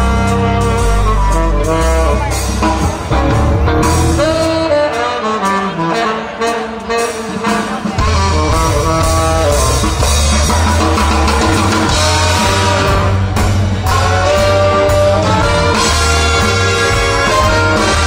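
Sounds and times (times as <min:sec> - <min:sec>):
low bass: 0:00.0 - 0:04.9, 0:08.0 - 0:18.0
swing band with horn section: 0:00.0 - 0:18.0.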